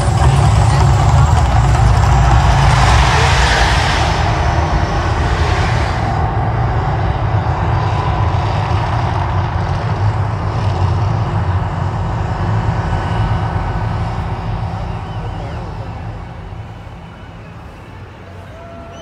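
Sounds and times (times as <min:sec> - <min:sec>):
deep continuous rumble: 0:00.0 - 0:19.0
flames and water jets rushing: 0:00.0 - 0:19.0.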